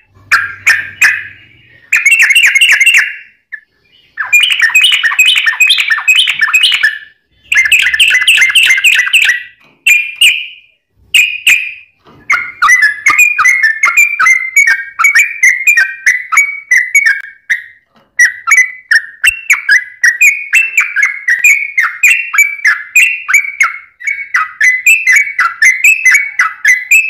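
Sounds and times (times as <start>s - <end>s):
bulbul singing: 0.0s - 27.0s.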